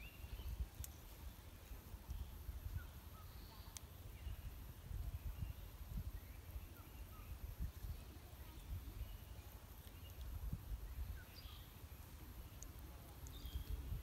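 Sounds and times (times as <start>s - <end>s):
wind rumble on microphone: 0.0s - 3.2s, 4.0s - 11.6s, 12.7s - 14.0s
faint bird chirps: 0.0s - 14.0s.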